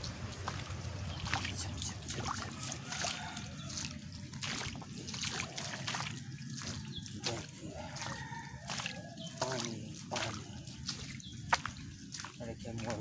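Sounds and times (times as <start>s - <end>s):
small water splashes: 0.0s - 13.0s
water trickling over lane: 0.0s - 13.0s.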